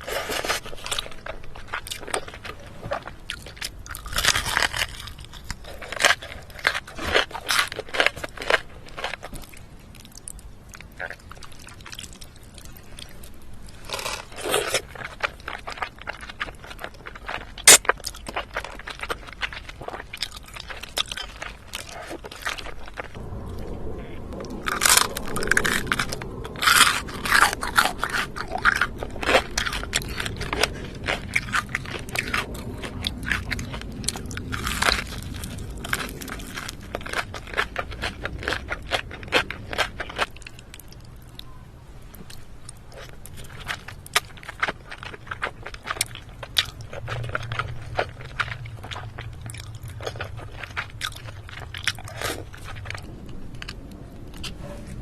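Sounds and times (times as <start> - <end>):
crunchy food chewing: 0.0 - 55.0.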